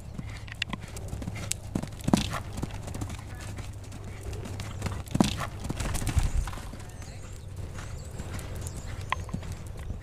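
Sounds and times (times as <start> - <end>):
horse hoofbeats on sand: 0.0 - 10.0.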